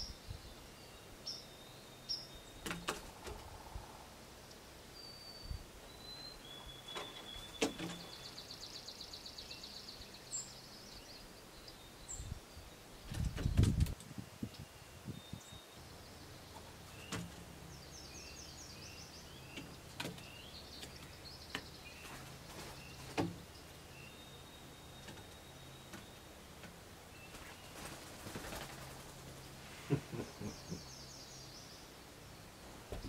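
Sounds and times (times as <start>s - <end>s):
birds chirping: 0.0s - 33.0s
faint low hum: 0.0s - 33.0s.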